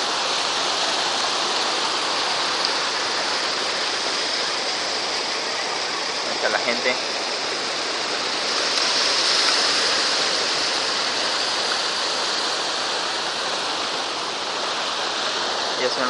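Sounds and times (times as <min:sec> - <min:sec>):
heavy waves breaking on rocks: 0:00.0 - 0:16.0.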